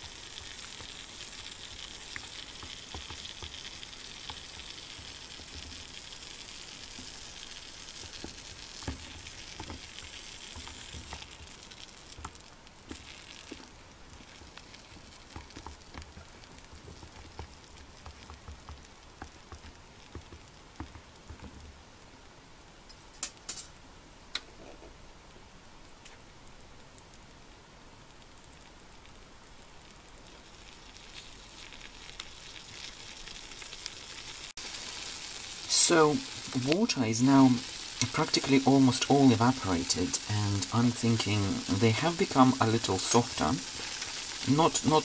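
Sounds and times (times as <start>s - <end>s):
small pops and crackles: 0.0s - 21.8s, 25.9s - 45.0s
water sizzling in skillet: 0.0s - 22.1s, 26.5s - 45.0s.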